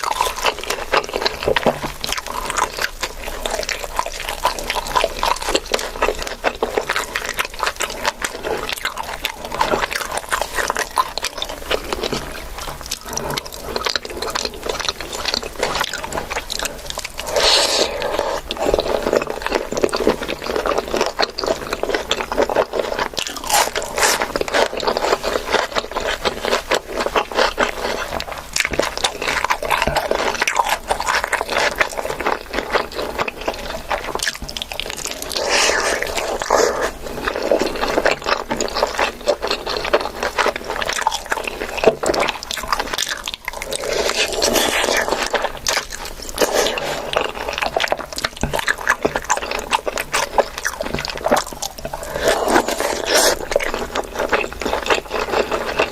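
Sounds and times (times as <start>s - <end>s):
crunching and scraping: 0.0s - 55.9s
person chewing and biting food: 0.0s - 55.9s.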